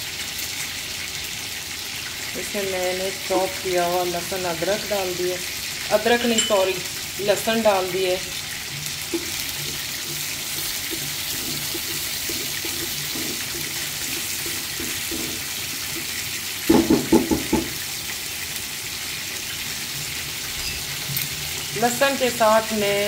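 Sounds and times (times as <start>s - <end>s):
garlic sizzling in hot oil: 0.0s - 23.0s.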